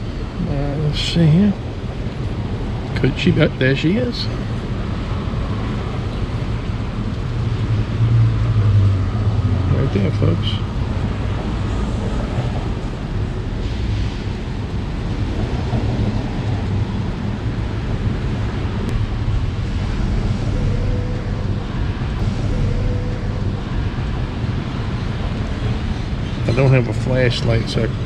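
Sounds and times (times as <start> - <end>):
wind rumble on microphone: 4.0 - 28.0.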